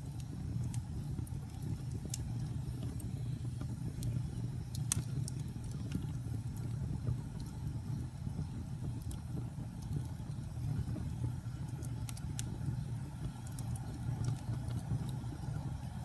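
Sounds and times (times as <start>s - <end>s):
wood fire burning and crackling: 0.0s - 16.0s.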